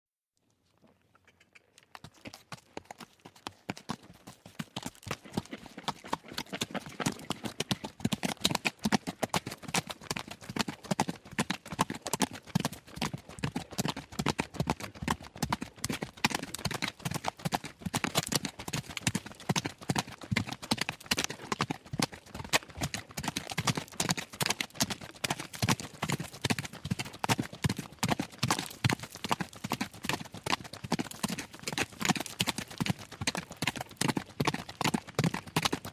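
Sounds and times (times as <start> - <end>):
horse galloping on gravel: 1.6 - 35.9.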